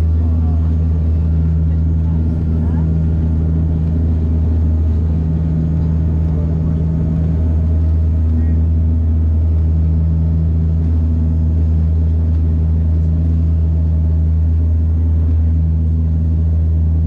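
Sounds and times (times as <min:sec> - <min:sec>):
propeller engine drone in cabin: 0:00.0 - 0:17.0.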